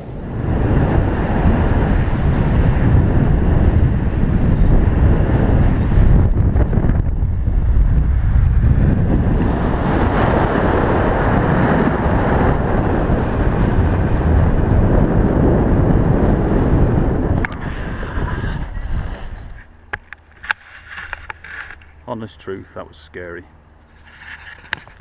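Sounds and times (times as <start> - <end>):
wind rushing over microphone: 0.0 - 22.6.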